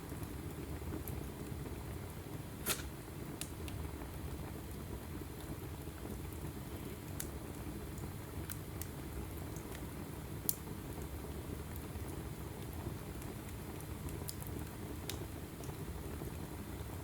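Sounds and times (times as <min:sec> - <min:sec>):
logs crackling and popping: 0:00.0 - 0:03.8, 0:04.6 - 0:15.9
fire low rumble: 0:00.0 - 0:17.0.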